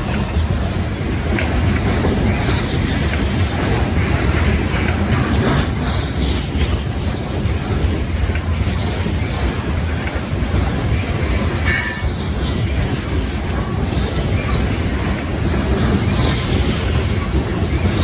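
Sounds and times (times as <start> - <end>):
freight train rumbling on rails: 0.0 - 18.0.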